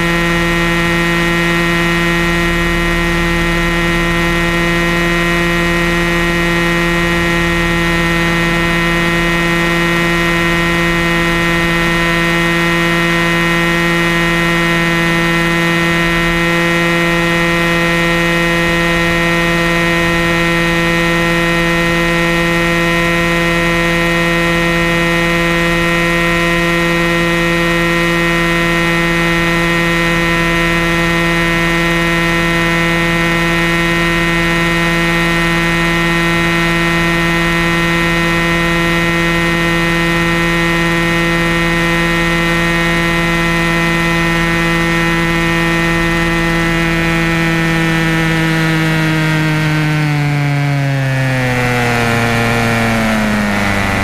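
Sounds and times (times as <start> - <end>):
helicopter motor whine: 0.0 - 54.0.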